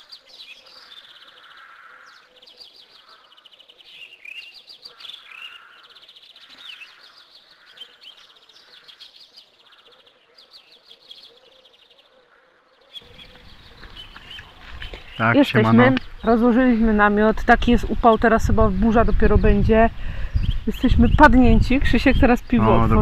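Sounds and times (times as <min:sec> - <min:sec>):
small birds chirping and trilling: 0:00.0 - 0:23.0.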